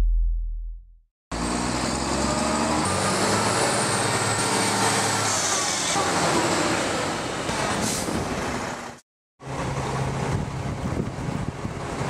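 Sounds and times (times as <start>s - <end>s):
diesel truck driving past: 1.3s - 12.0s.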